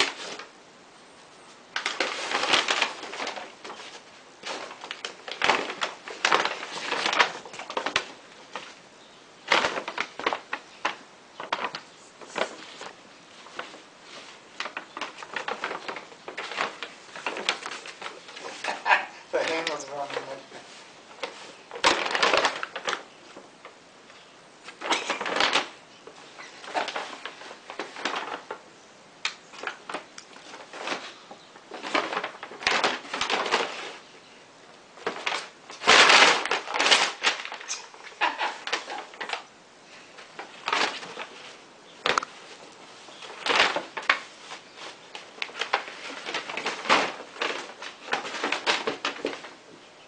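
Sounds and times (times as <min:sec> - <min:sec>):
paper bag crinkling and rustling: 0:00.0 - 0:00.6, 0:01.4 - 0:49.8.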